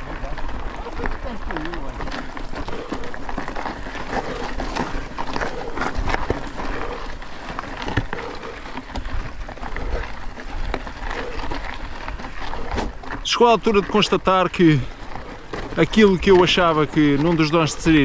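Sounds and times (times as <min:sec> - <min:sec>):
bike tyres crunching on dirt: 0:00.0 - 0:18.0.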